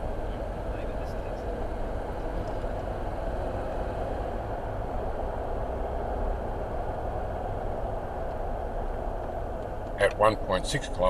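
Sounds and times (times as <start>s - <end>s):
car engine and tyres on road: 0.0s - 11.0s.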